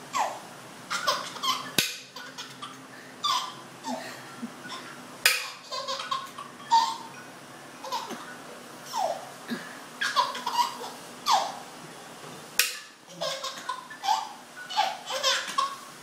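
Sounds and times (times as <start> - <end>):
toddler laughing: 0.1 - 7.1, 7.8 - 9.3, 10.0 - 11.6, 13.1 - 15.9.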